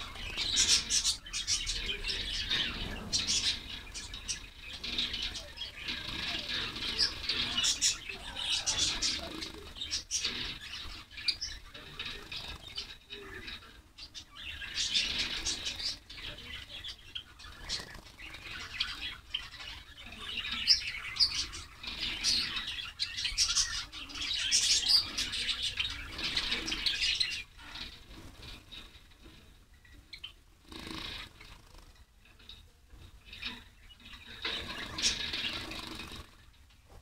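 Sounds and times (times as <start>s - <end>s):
sparrows chirping: 0.0s - 36.7s.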